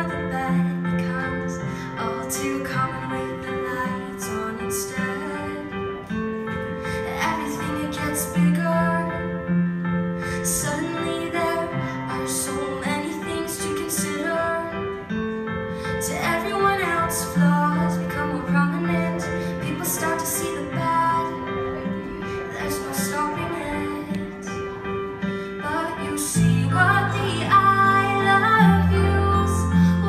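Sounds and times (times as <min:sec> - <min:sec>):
woman singing slow song: 0:00.0 - 0:06.1, 0:07.0 - 0:09.5, 0:10.3 - 0:15.0, 0:16.0 - 0:24.9, 0:25.5 - 0:30.0.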